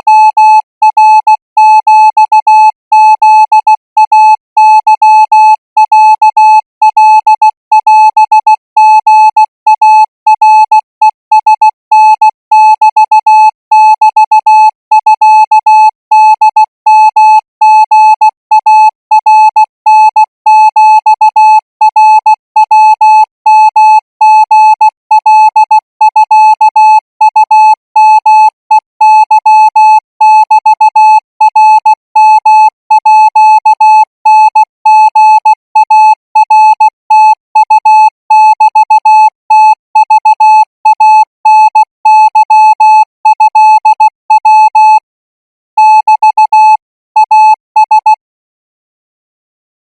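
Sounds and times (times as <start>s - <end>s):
morse code beeps: 0.0s - 45.1s, 45.8s - 48.3s.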